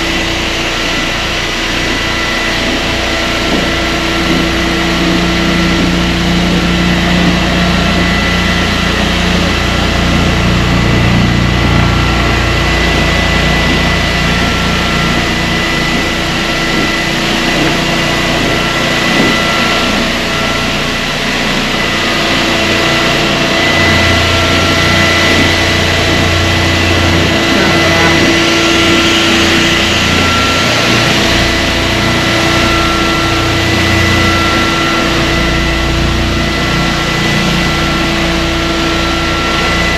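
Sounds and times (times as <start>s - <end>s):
floor sander motor drone: 0.0s - 39.9s
low rumble of sander: 0.0s - 39.9s.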